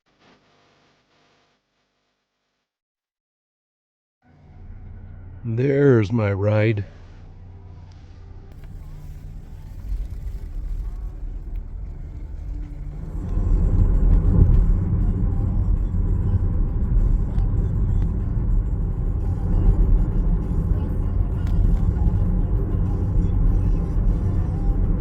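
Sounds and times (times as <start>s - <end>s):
motor vehicle rumble: 4.3s - 25.0s.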